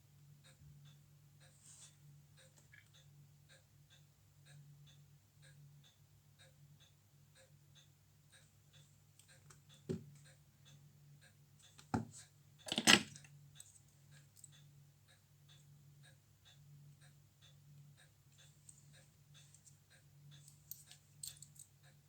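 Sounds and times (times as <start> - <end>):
faint light ticking: 0.1 - 22.0.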